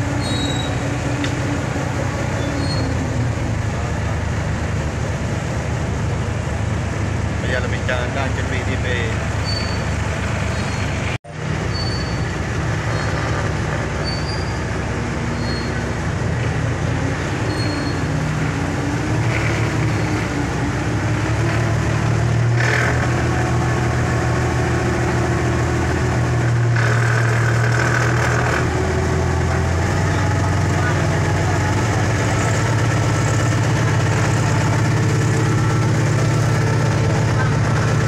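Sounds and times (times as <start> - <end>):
ferry engine droning: 0.0 - 38.0.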